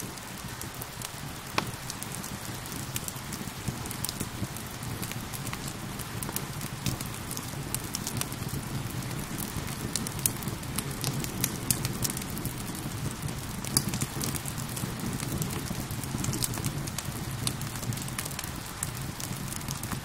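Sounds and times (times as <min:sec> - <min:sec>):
steady rain hiss: 0:00.0 - 0:20.0
wood fire crackling: 0:00.0 - 0:20.0.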